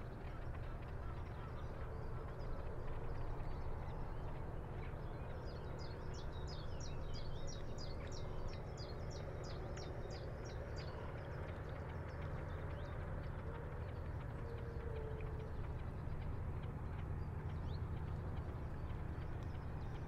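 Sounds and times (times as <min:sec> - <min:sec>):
breeze and water rumble: 0:00.0 - 0:20.0
faint distant hum: 0:00.0 - 0:20.0.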